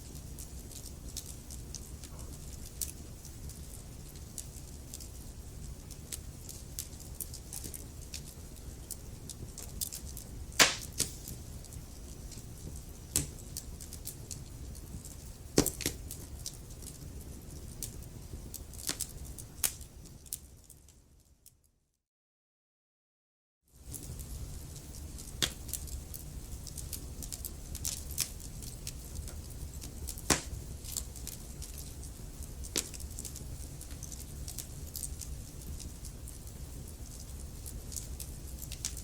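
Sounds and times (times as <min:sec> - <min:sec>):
wood fire crackling and popping: 0:00.0 - 0:21.0, 0:23.8 - 0:39.0.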